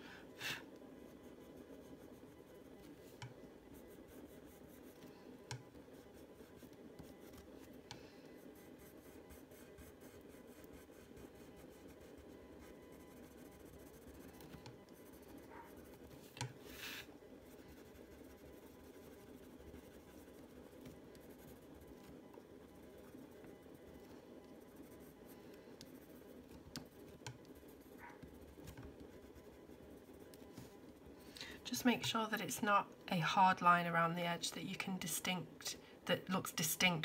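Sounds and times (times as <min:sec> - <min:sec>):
coloured pencil scratching on paper: 0:00.7 - 0:31.1.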